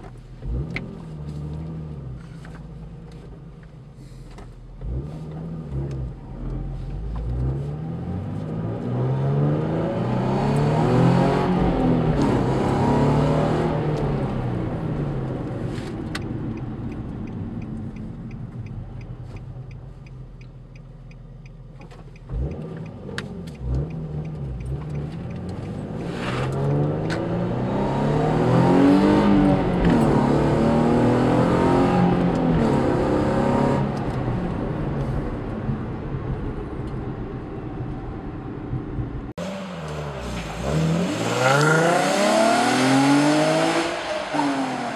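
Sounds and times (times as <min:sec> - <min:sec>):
car engine accelerating hard: 0:04.8 - 0:44.9.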